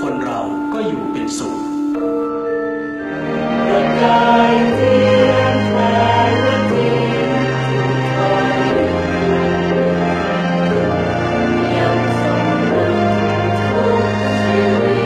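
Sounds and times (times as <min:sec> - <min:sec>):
choir singing held chords: 0:00.0 - 0:15.0
low music notes: 0:00.0 - 0:15.0.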